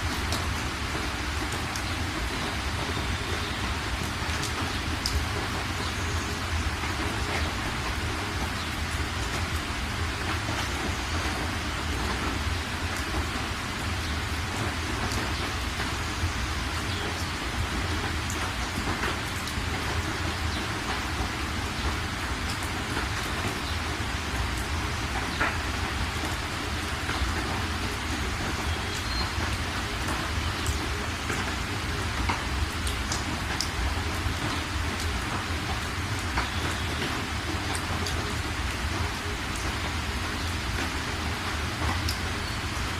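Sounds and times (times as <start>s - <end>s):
rain drop ticks: 0.0s - 42.9s
steady rain hiss: 0.0s - 42.9s.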